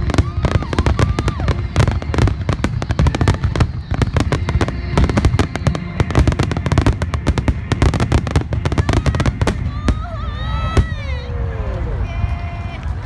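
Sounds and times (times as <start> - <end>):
fireworks exploding and crackling: 0.0 - 11.2
low rumble: 0.0 - 13.0.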